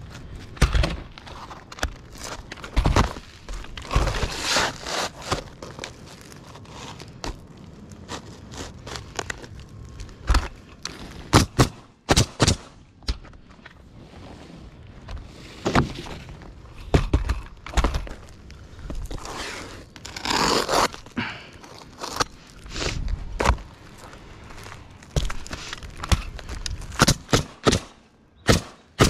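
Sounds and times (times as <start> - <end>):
shingles thudding and crinkling: 0.0 - 13.9, 15.0 - 27.9.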